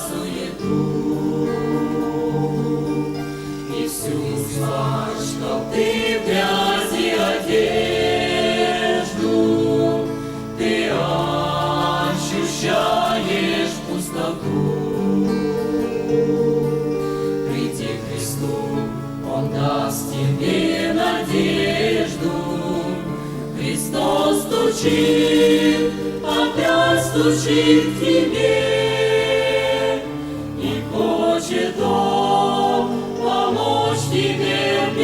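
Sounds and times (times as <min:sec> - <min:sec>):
choir singing: 0:00.0 - 0:35.0.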